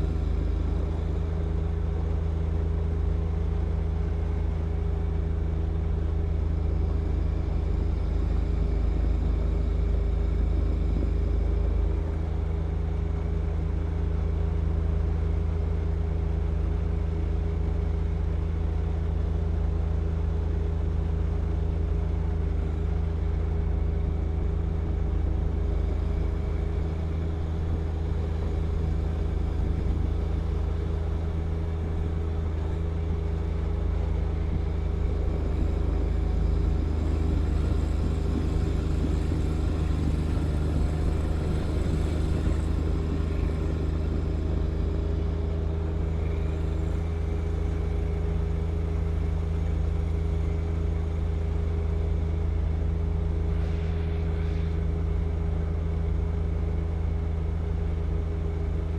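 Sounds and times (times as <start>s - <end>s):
tractor diesel engine running: 0.0s - 13.8s, 21.8s - 55.2s.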